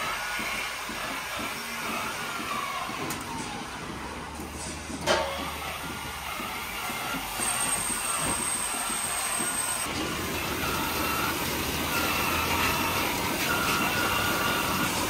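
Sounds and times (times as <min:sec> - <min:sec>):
milking machinery running: 0:00.0 - 0:15.0.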